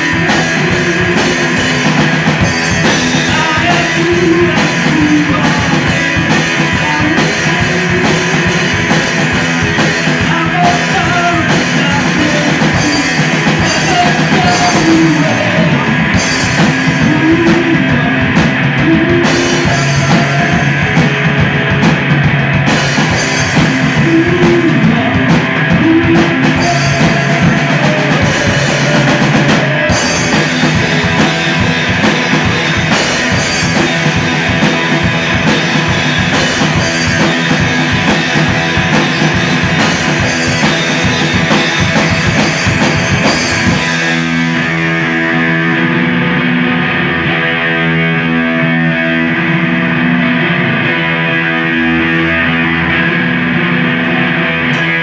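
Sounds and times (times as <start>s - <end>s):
drum kit: 0.0s - 55.0s
live rock band playing: 0.0s - 55.0s.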